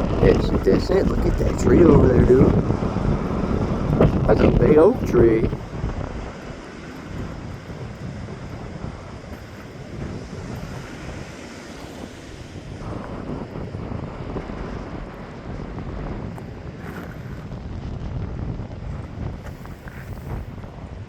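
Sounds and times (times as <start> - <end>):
gusty wind buffeting microphone: 0.0 - 21.0.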